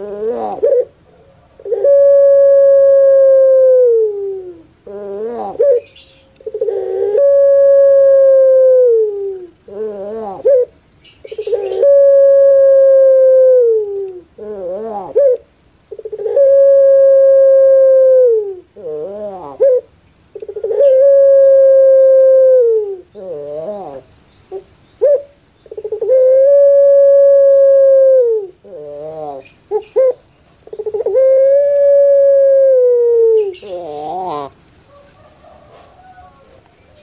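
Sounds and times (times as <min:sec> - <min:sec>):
dove cooing: 0:00.0 - 0:37.0.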